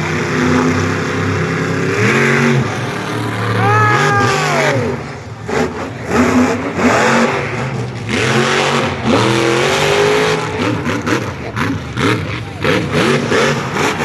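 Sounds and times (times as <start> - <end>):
truck engine revving hard: 0.0 - 14.0.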